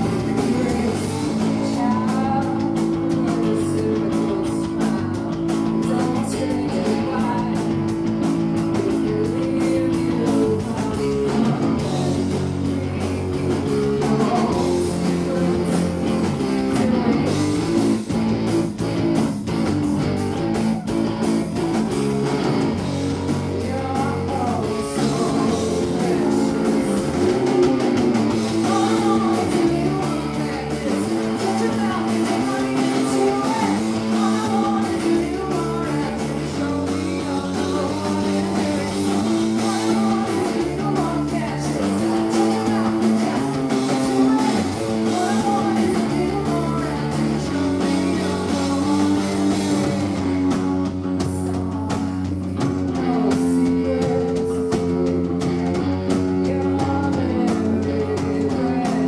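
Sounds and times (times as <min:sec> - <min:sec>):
woman singing: 0:00.0 - 0:17.7, 0:22.8 - 0:59.0
bass guitar: 0:00.0 - 0:59.0
drums: 0:00.0 - 0:59.0
electric guitar: 0:00.0 - 0:59.0.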